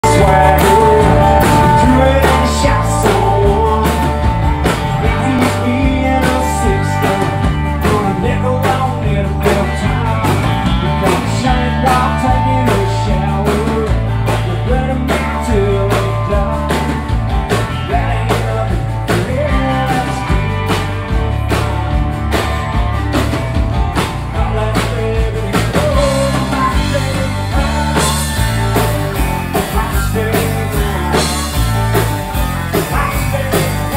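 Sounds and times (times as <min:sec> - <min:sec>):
man singing lead vocal: 0:00.0 - 0:21.3, 0:24.0 - 0:33.9
bass guitar: 0:00.0 - 0:33.9
drum kit steady beat: 0:00.0 - 0:33.9
electric and acoustic guitars: 0:00.0 - 0:33.9.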